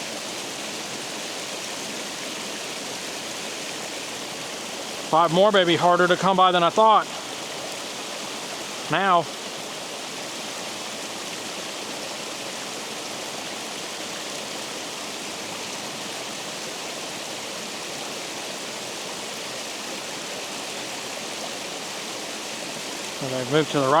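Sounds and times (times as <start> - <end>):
water rushing over a spillway: 0.0 - 24.0.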